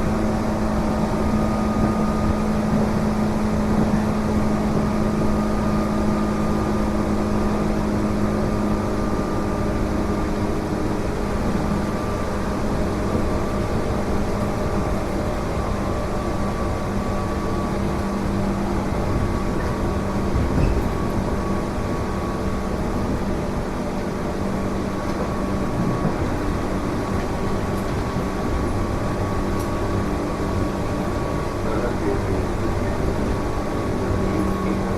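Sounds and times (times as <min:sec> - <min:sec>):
constant low hum: 0:00.0 - 0:34.9
electric train rolling rumble: 0:00.0 - 0:34.9.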